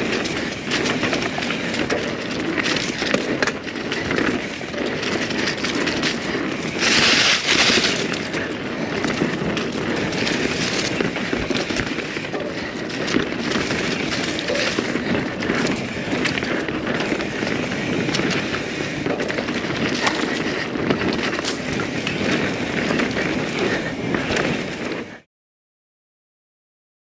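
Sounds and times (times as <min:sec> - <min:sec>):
bike rattling clicks and knocks: 0:00.0 - 0:25.2
bike tyres on dirt trail: 0:00.0 - 0:25.3.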